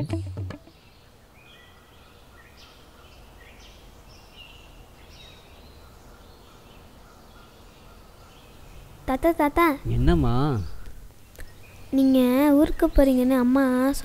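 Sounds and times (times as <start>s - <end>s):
birds chirping: 0.0s - 14.0s
faint steady hum: 0.0s - 14.0s.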